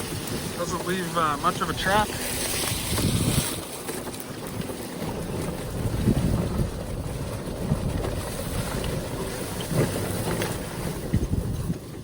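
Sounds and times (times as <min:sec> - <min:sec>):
storm wind buffeting microphone: 0:00.0 - 0:03.7, 0:05.0 - 0:12.0.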